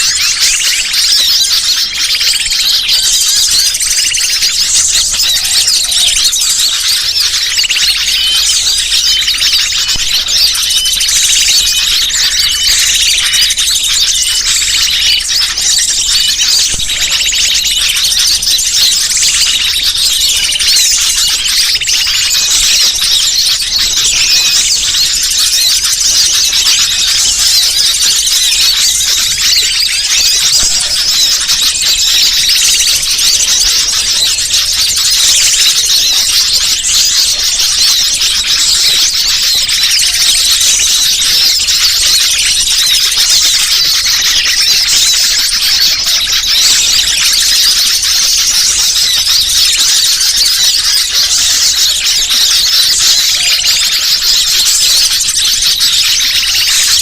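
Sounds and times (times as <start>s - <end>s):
chorus of small birds chirping: 0.0s - 57.0s.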